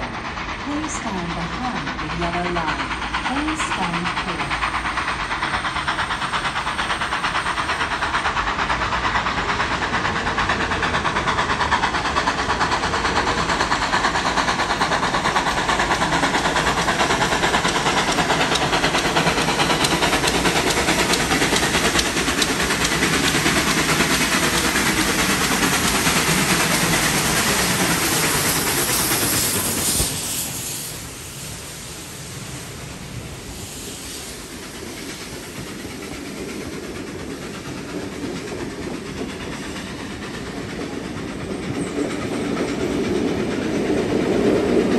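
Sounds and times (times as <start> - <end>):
steam hiss: 0.0 - 44.9
steam locomotive exhaust beat: 0.0 - 44.9
train wheel noise: 0.0 - 44.9.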